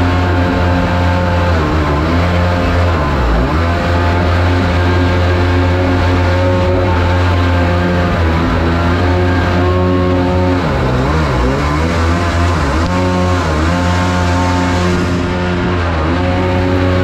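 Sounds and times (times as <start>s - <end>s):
jet boat engine running hard: 0.0s - 17.0s.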